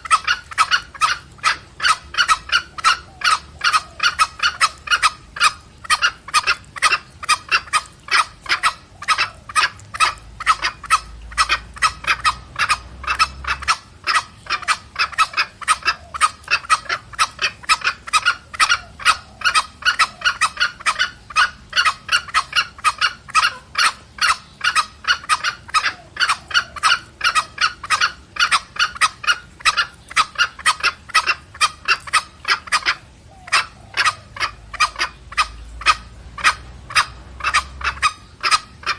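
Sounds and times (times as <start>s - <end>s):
junglefowl clucking calls: 0.0s - 38.9s.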